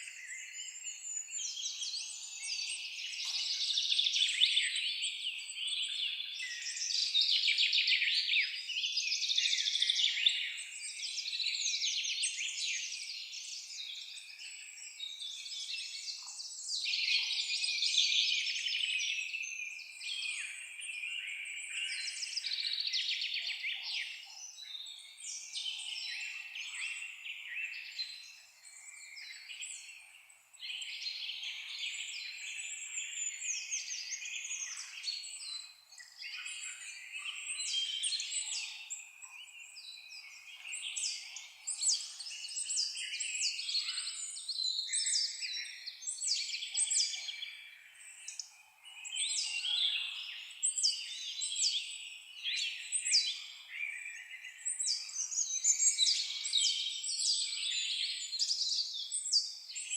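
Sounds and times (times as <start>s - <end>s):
songbirds chorus: 0.0s - 59.9s.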